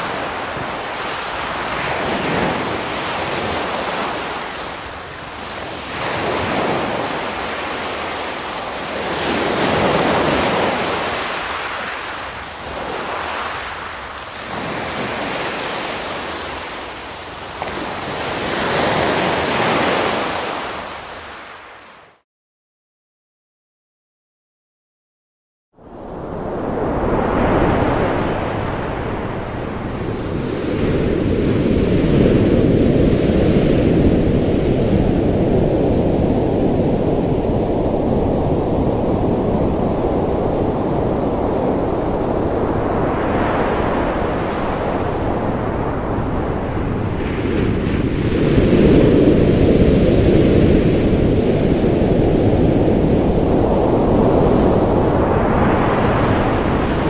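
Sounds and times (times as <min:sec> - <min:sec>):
ocean waves breaking: 0:00.0 - 0:21.7, 0:26.1 - 0:57.0.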